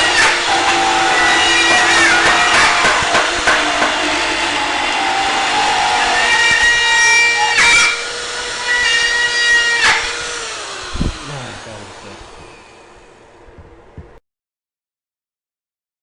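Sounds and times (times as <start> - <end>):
power tool whining: 0.0 - 13.4.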